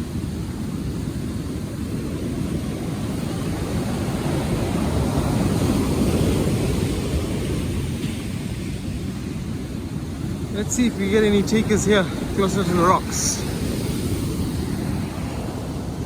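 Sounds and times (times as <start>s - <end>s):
breaking surf: 0.0s - 16.0s
wind on microphone: 0.0s - 16.0s.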